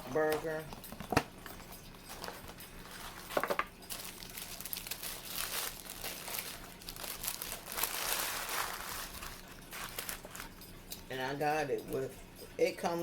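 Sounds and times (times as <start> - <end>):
burger wrapper crinkling: 0.1 - 10.7.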